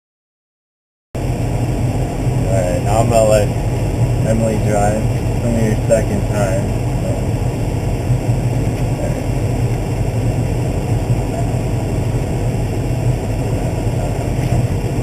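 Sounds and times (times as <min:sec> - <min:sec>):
tractor diesel engine droning: 0:01.2 - 0:15.0.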